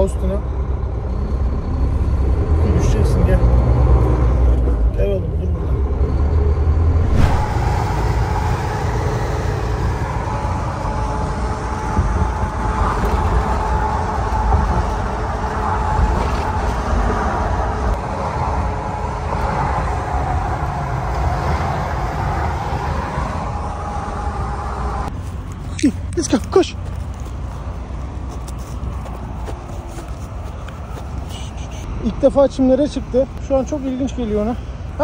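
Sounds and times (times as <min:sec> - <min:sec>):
motor vehicle rumble: 0:00.0 - 0:35.0.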